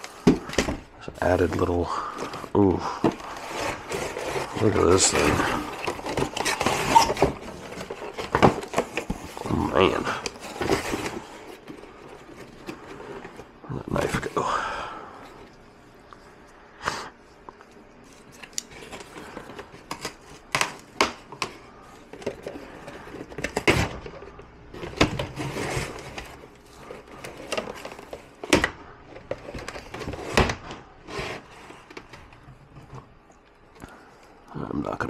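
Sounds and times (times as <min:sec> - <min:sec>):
cardboard scraping and rustling: 0:00.0 - 0:14.5, 0:17.7 - 0:33.2.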